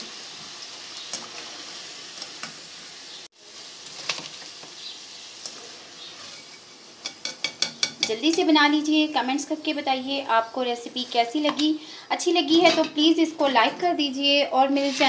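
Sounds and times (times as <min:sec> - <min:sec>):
chips sizzling in hot fat: 0:00.0 - 0:15.0.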